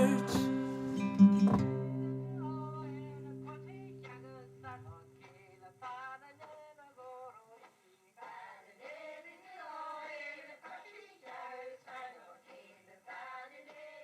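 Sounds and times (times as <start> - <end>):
wordless singing voices: 0.0 - 0.8, 2.4 - 14.0.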